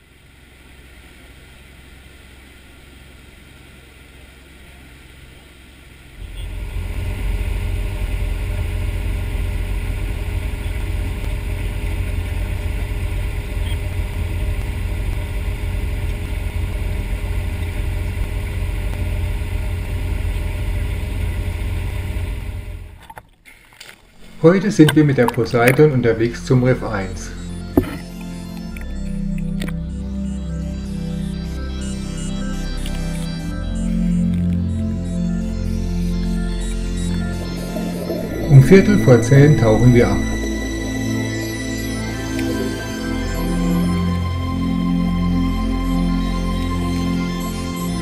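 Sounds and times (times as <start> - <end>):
boat engine rumbling: 0.0 - 23.1, 24.0 - 30.7, 34.6 - 48.0.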